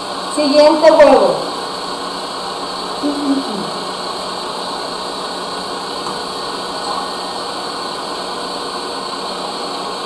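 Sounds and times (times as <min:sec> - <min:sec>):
electric stand mixer running: 0:00.0 - 0:10.0.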